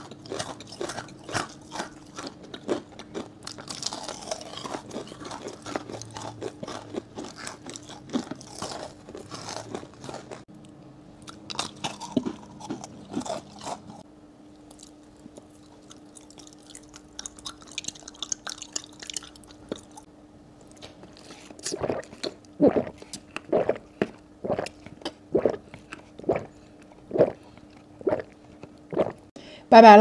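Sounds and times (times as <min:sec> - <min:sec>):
crunching and chewing candy: 0:00.0 - 0:10.5, 0:11.2 - 0:29.3
faint steady hum: 0:00.0 - 0:30.0.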